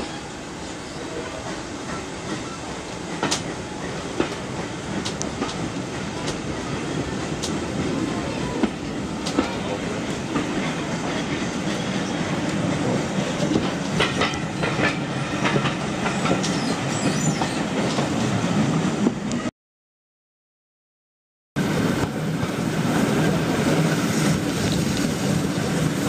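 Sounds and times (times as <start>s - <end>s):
train carriage rumble: 0.0s - 19.5s, 21.6s - 26.0s.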